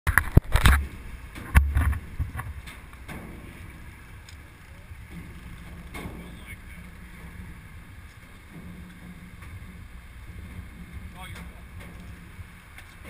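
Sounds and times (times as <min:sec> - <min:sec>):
boat engine hum: 0:00.1 - 0:13.0
light wind: 0:00.1 - 0:13.0.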